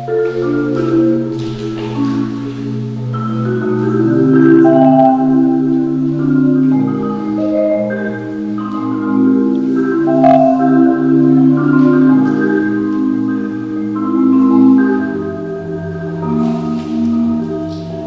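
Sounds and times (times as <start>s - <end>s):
marimba music: 0.0s - 18.0s.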